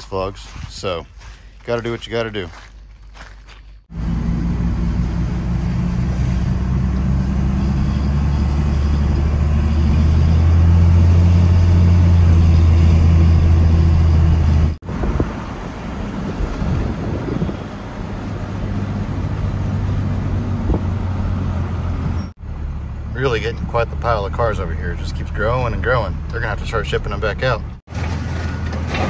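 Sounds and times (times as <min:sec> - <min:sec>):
rougher engine sound: 0:03.8 - 0:29.0
heavy vehicle engine running: 0:03.9 - 0:29.0.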